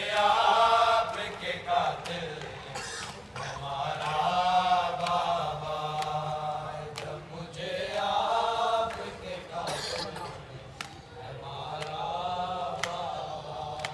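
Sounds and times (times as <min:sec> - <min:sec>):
men chanting a lament: 0:00.0 - 0:13.9.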